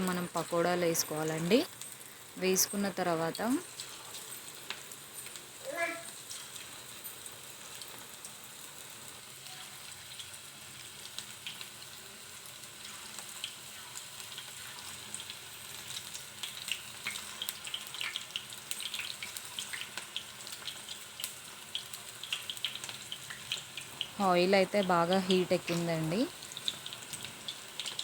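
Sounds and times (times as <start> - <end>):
batter frying in hot oil: 0.0 - 28.0.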